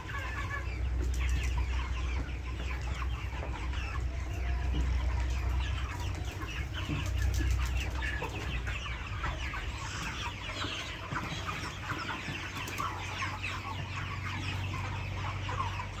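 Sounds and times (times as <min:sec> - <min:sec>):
chickens clucking and chirping: 0:00.0 - 0:16.0.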